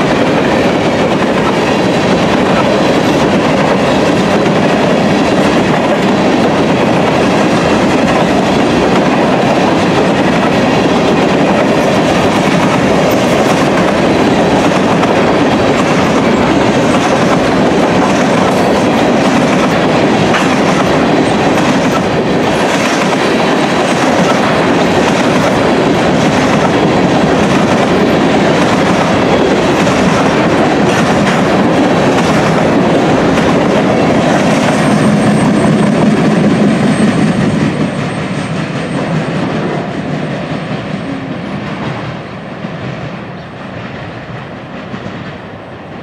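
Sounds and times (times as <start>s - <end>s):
freight train wheels on rails: 0.0s - 46.0s.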